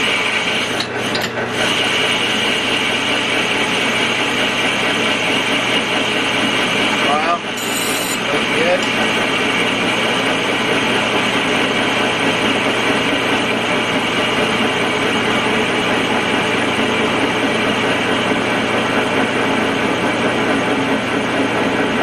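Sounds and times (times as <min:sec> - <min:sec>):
lathe low hum: 0:00.0 - 0:22.0
metal lathe cutting: 0:00.0 - 0:22.0.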